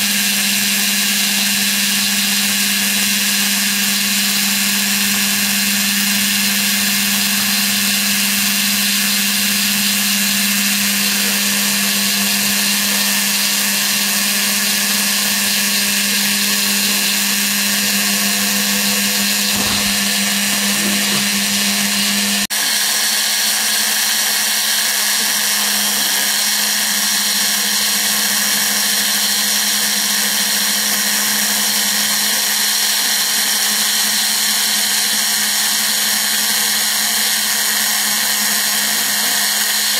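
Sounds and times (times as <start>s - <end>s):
cnc spindle motor whining: 0.0s - 39.9s.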